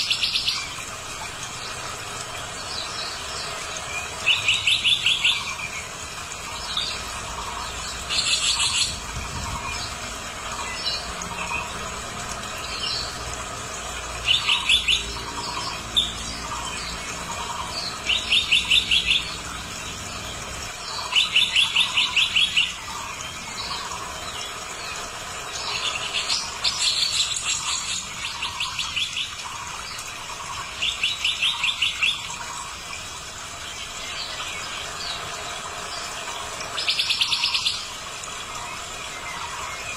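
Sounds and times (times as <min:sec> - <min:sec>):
bird calling in rapid trills: 0:00.0 - 0:11.9, 0:12.5 - 0:39.9.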